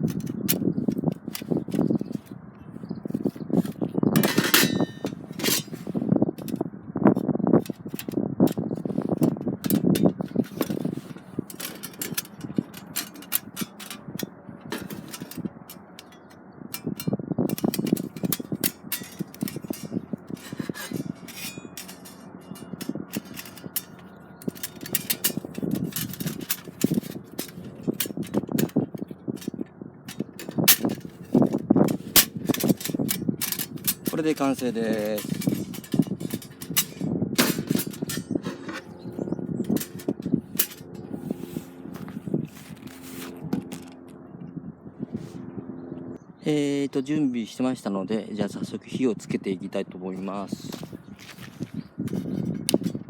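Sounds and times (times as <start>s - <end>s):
metal parts clinking and scraping: 0.0s - 2.3s, 3.1s - 6.6s, 7.2s - 44.0s, 50.7s - 53.0s.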